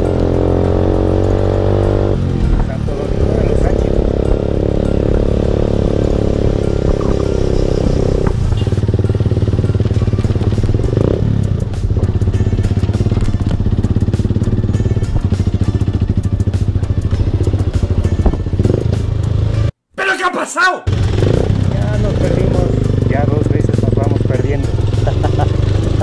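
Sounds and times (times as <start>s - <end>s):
motorcycle engine running: 0.0s - 19.7s, 20.9s - 26.0s.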